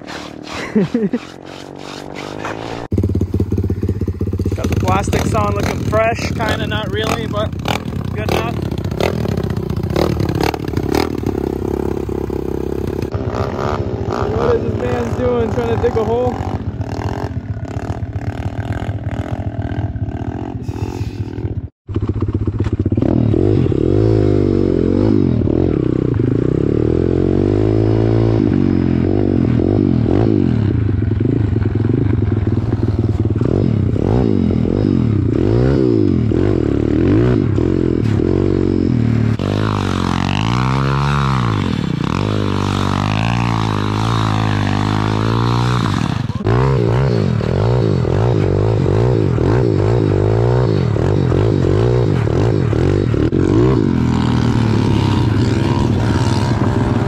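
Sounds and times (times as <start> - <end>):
small motorbike engines revving: 0.0 - 57.0.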